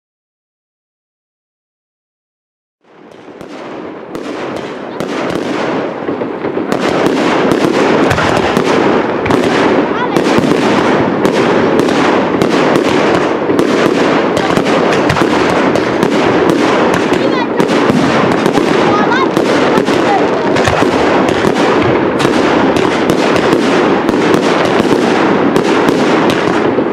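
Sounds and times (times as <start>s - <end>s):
fireworks barrage of bursts: 2.8s - 26.9s.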